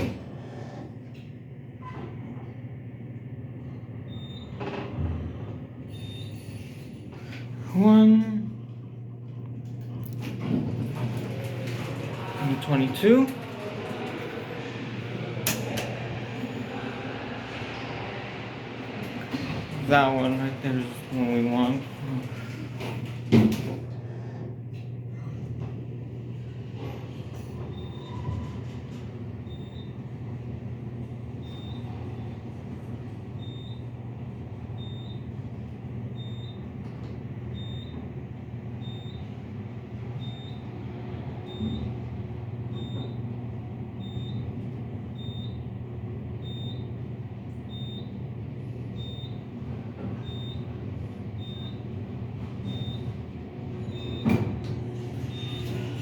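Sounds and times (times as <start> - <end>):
elevator hum: 0.0 - 56.0.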